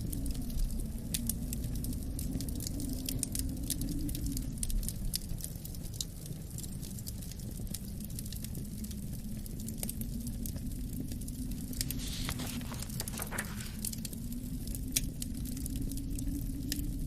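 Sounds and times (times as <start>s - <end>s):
low wind rumble with howl: 0.0s - 17.0s
wood fire crackling: 0.0s - 17.0s.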